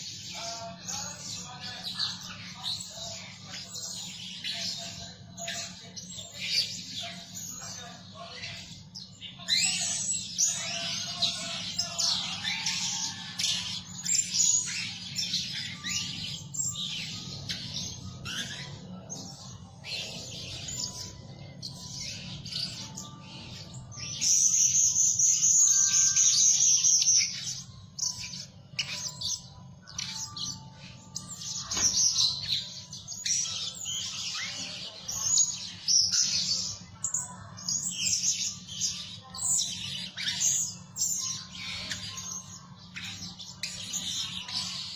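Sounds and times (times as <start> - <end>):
parrots chirping: 4.1 - 44.9.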